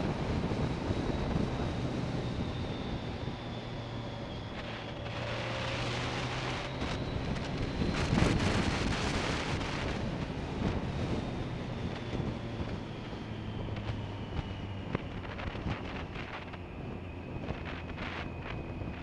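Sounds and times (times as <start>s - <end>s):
motorcycle engine running steadily: 0.0s - 19.0s
wind noise on microphone: 0.0s - 19.0s.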